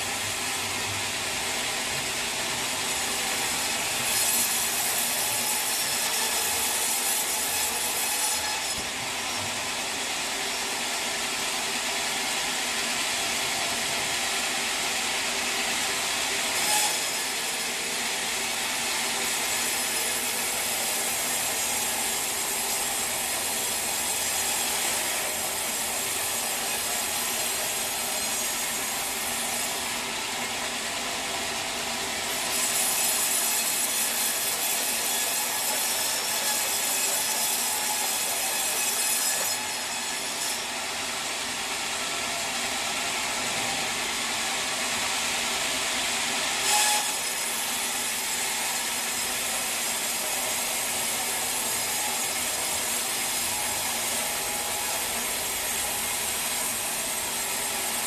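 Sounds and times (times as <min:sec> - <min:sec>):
saw blade cutting log: 0:00.0 - 0:58.0.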